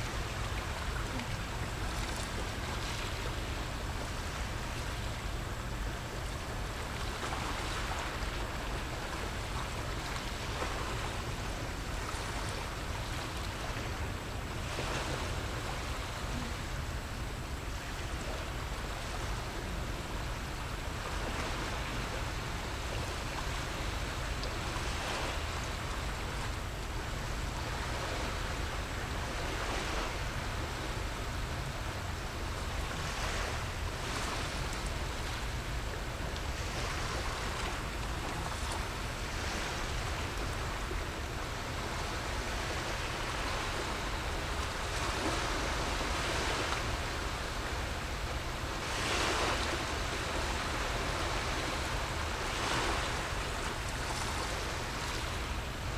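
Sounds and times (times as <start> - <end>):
small waves washing ashore: 0.0 - 55.9.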